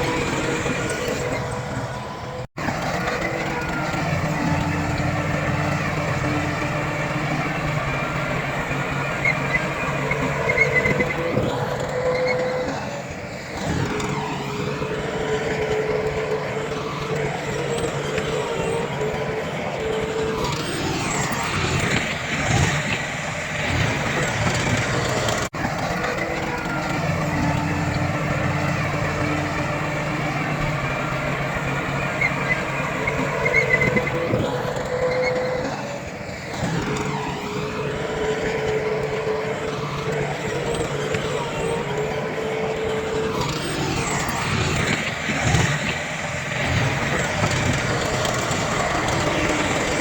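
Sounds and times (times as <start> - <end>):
heavy machinery diesel engines running: 0.0 - 50.0.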